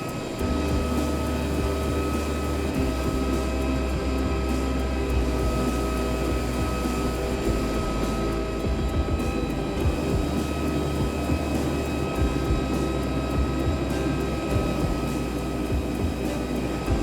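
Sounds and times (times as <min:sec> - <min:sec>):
jet engines whining: 0:00.0 - 0:17.0.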